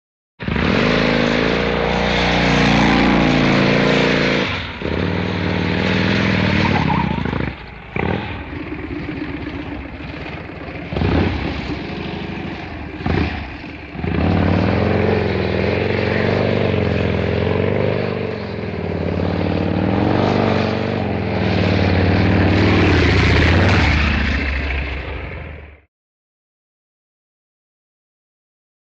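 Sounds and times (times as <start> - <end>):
motorcycle engine revving: 0.4 - 25.9.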